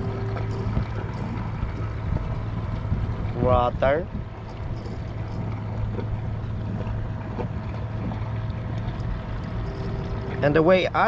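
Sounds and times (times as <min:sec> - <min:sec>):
low steady hum: 0:00.0 - 0:11.0
wind noise on microphone: 0:00.0 - 0:11.0.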